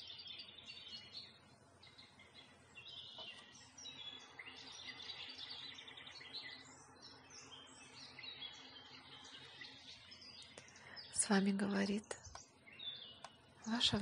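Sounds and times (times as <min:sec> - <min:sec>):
birds chirping and singing: 0:00.0 - 0:14.0
faint steady background noise: 0:00.0 - 0:14.0.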